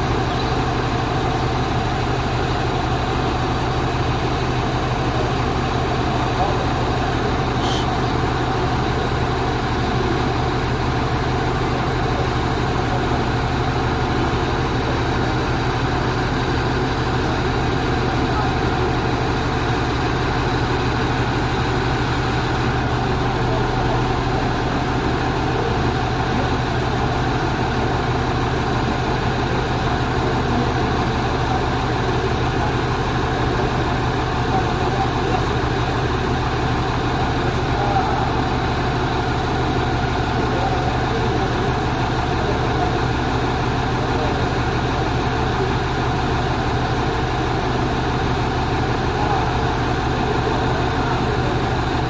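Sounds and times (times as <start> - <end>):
truck engine idling: 0.0 - 52.0.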